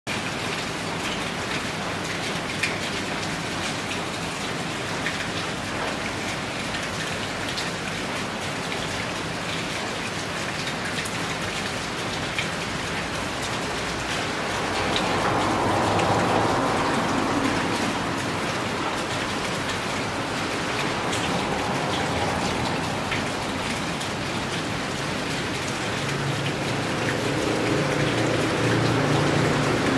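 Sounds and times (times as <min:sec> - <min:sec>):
steady rain falling: 0:00.1 - 0:29.9
water drips: 0:00.1 - 0:29.9.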